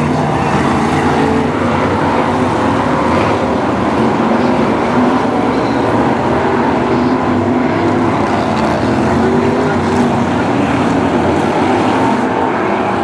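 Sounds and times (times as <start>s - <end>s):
racing car engines running hard: 0.0s - 13.0s.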